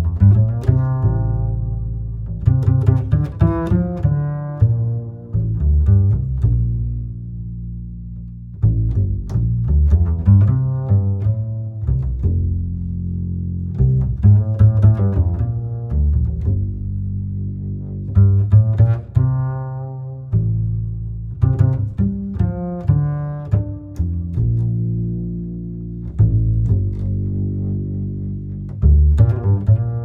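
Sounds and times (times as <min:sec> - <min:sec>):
string instrument music: 0:00.0 - 0:30.0.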